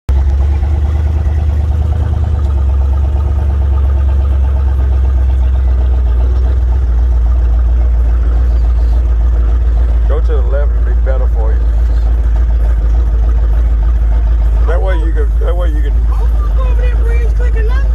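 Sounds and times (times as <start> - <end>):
truck engine rumbling: 0.0 - 17.9.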